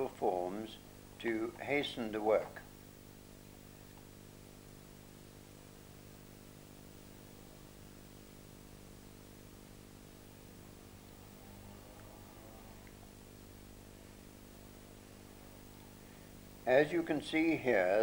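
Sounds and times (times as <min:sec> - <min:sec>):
faint electrical hum with hiss: 0:00.0 - 0:18.0.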